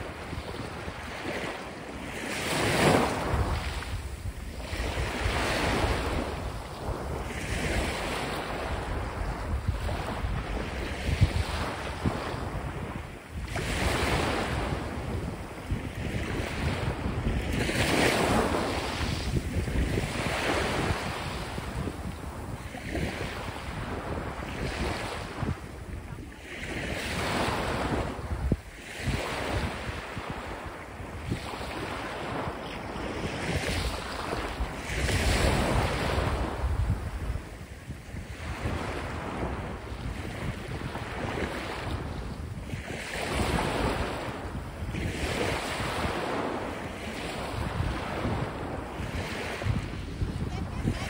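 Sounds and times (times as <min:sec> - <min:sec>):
waves washing up a sandy shore: 0:00.0 - 0:51.0
wind rumbling on microphone: 0:00.0 - 0:51.0.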